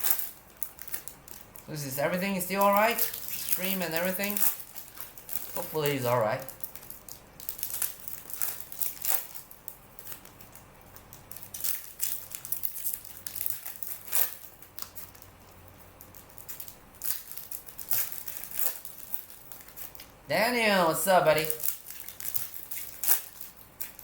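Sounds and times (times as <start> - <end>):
plastic wrapping crinkling: 0.0 - 24.0.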